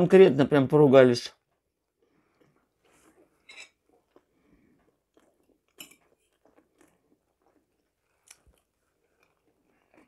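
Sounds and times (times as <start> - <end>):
person chewing: 1.6 - 10.0.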